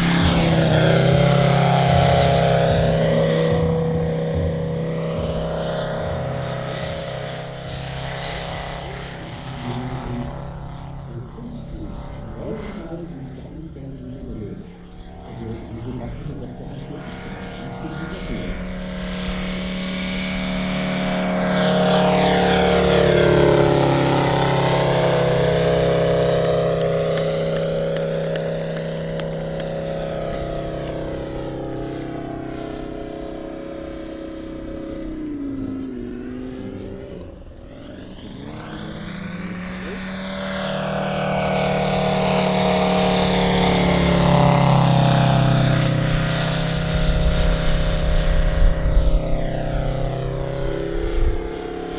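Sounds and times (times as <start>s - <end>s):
model airplane radial engine: 0.0s - 51.9s.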